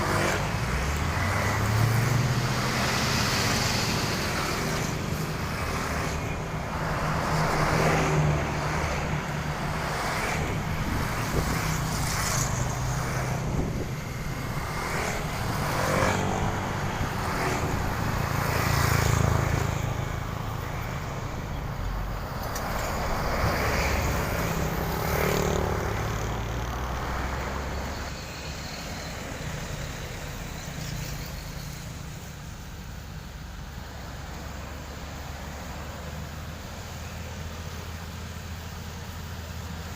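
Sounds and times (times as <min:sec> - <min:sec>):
traffic passing by: 0:00.0 - 0:39.9.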